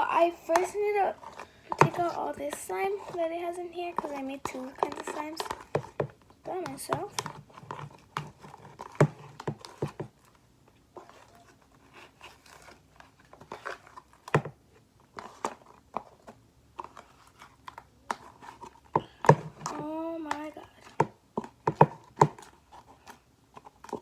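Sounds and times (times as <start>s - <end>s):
slime handling noises: 0.0s - 24.0s.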